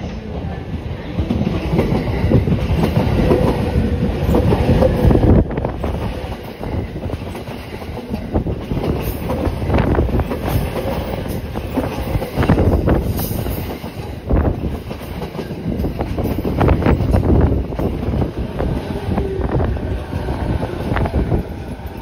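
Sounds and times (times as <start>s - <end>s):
train wheels rumbling on rails: 0.0s - 22.0s
wheels clacking over rail joints: 1.2s - 22.0s.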